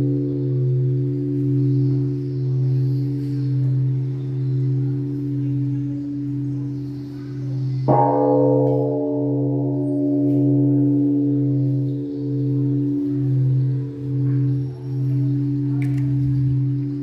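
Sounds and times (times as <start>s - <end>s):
low hum of held tones: 0.0s - 17.0s
singing bowl ringing: 0.0s - 17.0s.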